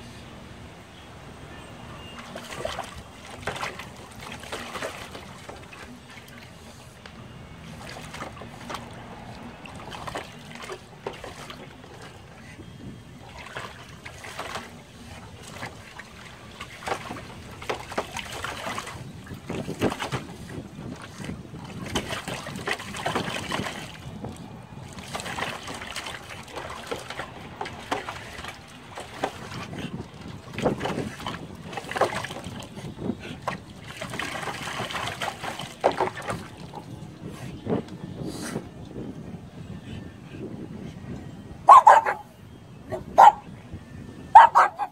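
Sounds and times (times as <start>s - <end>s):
dog splashing water in tub: 1.8s - 38.0s.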